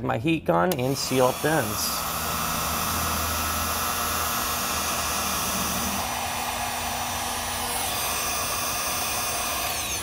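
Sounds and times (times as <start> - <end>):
heat gun fan blowing: 0.7 - 10.0.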